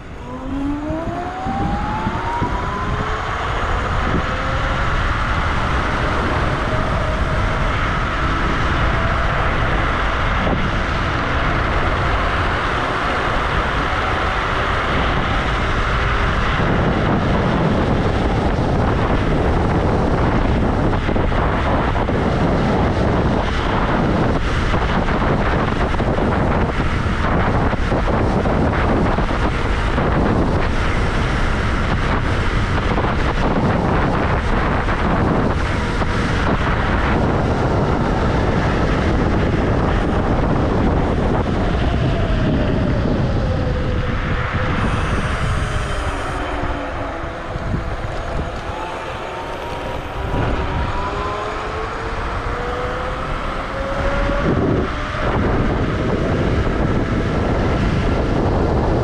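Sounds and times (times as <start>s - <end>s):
tyres rumbling on road: 0.0s - 59.0s
wind buffeting microphone: 0.0s - 59.0s.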